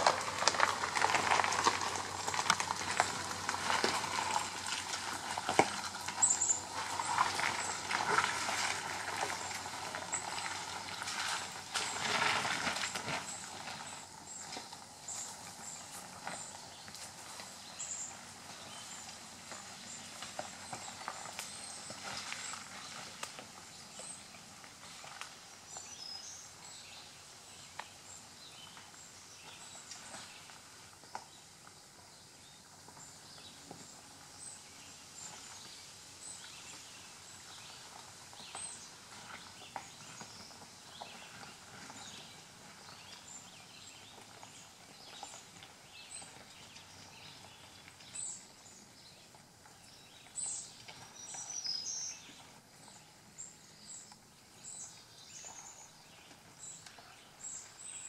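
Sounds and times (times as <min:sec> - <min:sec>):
tyres crunching over gravel: 0:00.0 - 0:58.0.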